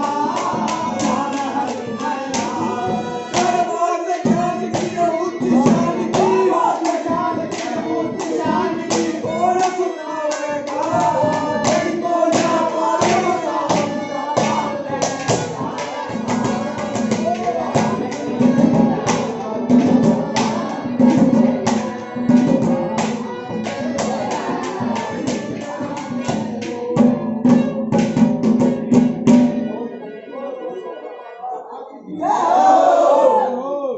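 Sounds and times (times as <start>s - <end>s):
steady drum beats: 0.0s - 29.7s
held instrumental tones: 0.0s - 31.1s
wavering folk melody: 0.0s - 31.6s.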